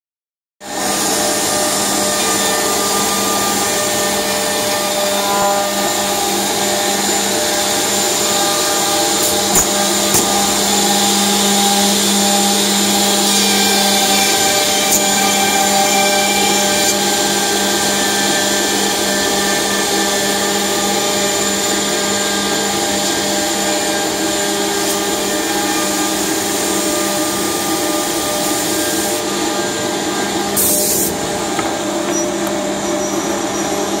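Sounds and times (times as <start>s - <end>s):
machine motors whining: 0.7s - 34.0s.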